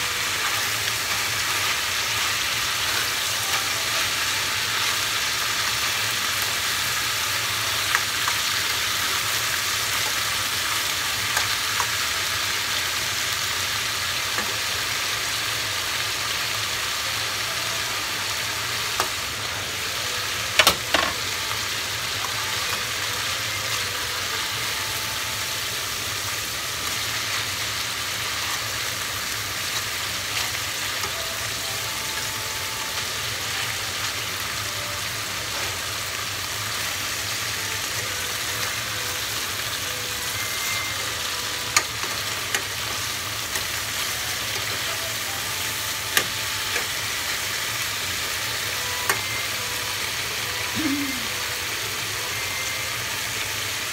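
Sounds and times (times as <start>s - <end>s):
chicken sizzling in oil: 0.0s - 53.9s.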